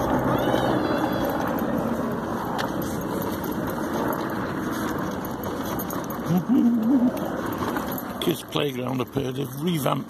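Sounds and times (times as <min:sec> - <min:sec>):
mobility scooter running: 0:00.0 - 0:10.0.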